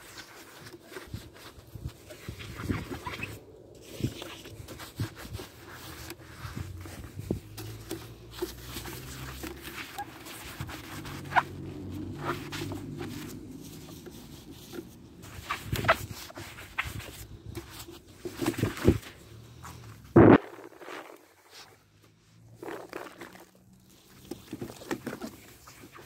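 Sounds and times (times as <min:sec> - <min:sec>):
sponge scrubbing plastic: 0:00.0 - 0:26.0.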